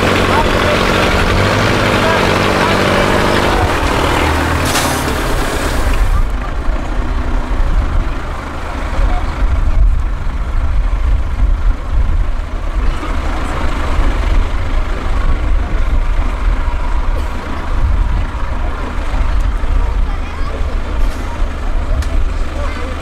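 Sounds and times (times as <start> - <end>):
crowd chatter: 0.0 - 23.0
diesel engine rumbling at low revs: 0.0 - 23.0.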